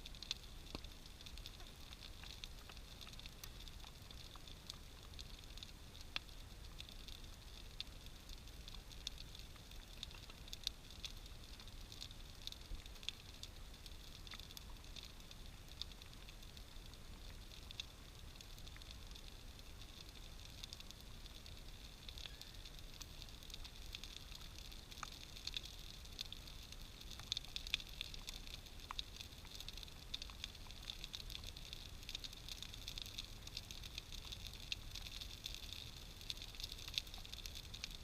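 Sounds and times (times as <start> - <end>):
bonfire crackling and popping: 0.0 - 38.0
steady high hiss: 0.0 - 38.0.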